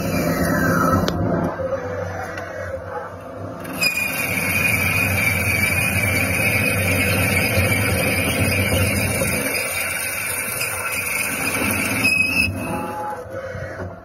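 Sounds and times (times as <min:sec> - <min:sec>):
machine running: 0:00.0 - 0:13.8
high steady whine: 0:00.0 - 0:14.0.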